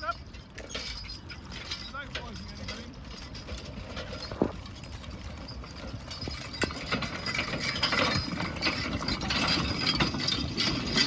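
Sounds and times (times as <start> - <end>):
horse hooves clip-clopping: 0.0 - 11.0.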